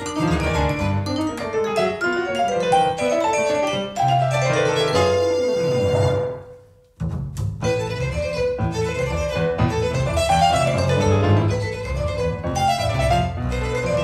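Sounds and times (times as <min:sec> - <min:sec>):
violin melody: 0:00.0 - 0:06.7, 0:07.6 - 0:14.0
piano accompaniment: 0:00.0 - 0:14.0.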